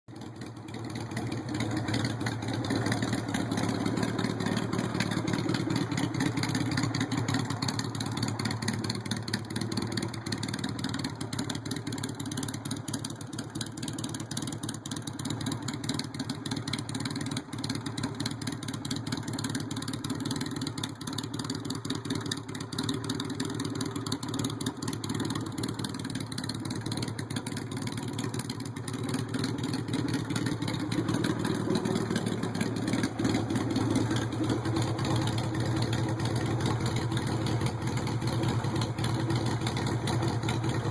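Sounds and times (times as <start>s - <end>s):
motorcycle engine idling: 0.1s - 40.9s.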